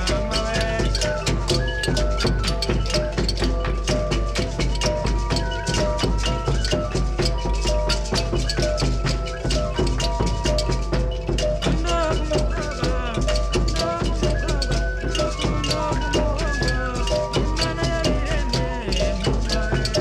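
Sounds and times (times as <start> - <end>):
fast percussion beat with melody: 0.0 - 20.0.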